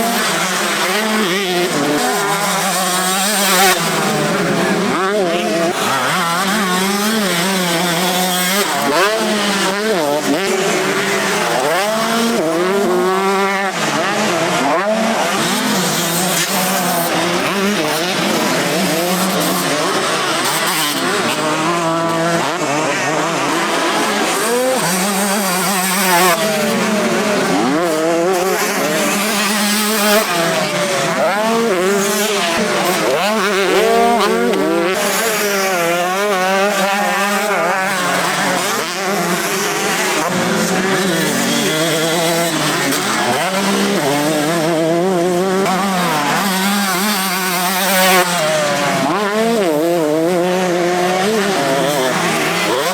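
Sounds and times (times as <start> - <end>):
motocross bikes revving: 0.0 - 52.9.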